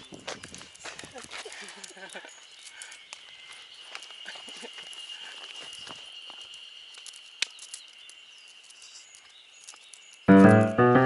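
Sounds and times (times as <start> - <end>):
light footsteps on path: 0.0 - 10.8
cicadas droning: 0.0 - 11.0.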